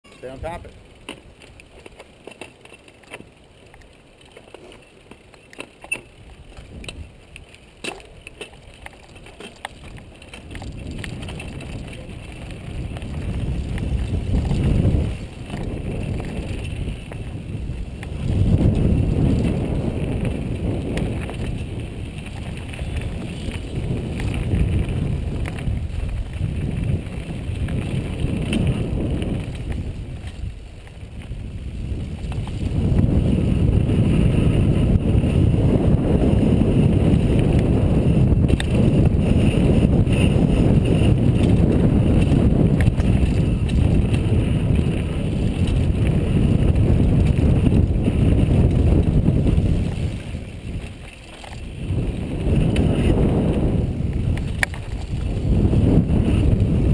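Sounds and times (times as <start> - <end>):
tyres rumbling on dirt trail: 0.0 - 56.9
wind buffeting microphone: 0.0 - 56.9.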